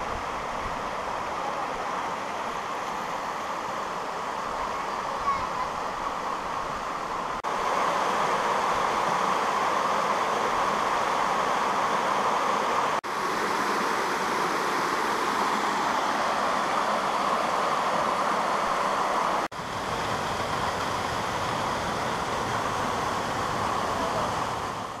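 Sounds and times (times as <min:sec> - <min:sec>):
stream water rushing over rocks: 0:00.0 - 0:25.0.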